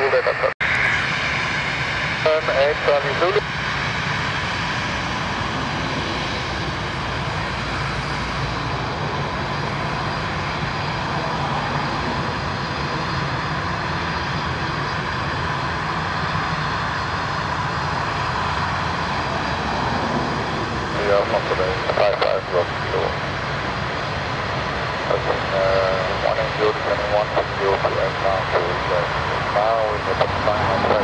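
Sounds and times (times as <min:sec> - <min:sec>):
jet engines whining: 0:00.0 - 0:31.0.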